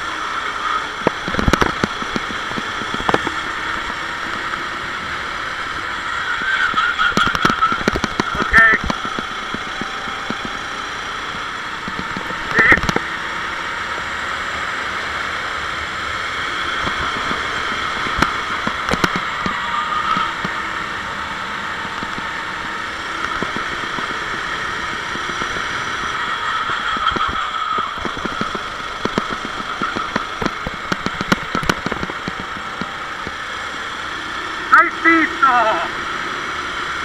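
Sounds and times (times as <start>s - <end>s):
kart engine at racing speed: 0.0s - 37.0s.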